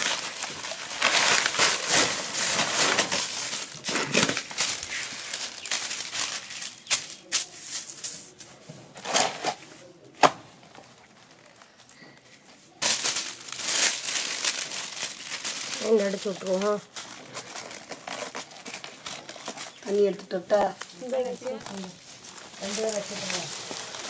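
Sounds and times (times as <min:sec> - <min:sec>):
plastic film crinkling: 0:00.0 - 0:10.0, 0:10.7 - 0:24.0.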